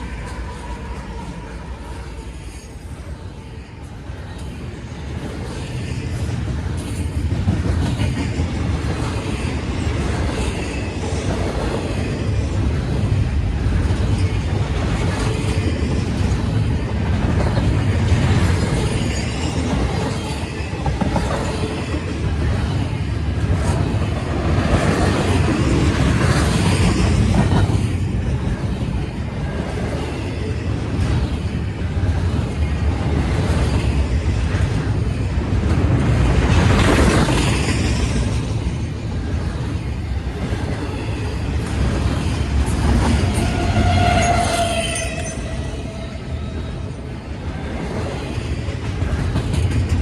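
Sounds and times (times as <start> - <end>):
freight train rumbling: 0.0 - 50.0.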